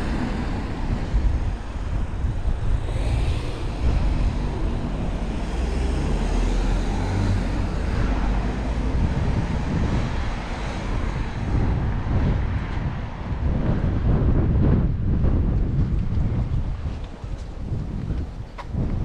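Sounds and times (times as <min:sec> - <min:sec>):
street traffic noise: 0:00.0 - 0:19.0
wind rumble on microphone: 0:00.0 - 0:19.0.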